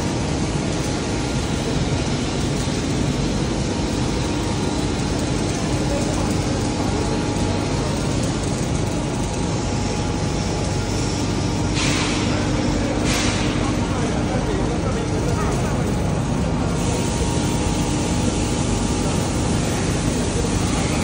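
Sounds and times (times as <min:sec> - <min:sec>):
factory machinery rumble: 0:00.0 - 0:21.0.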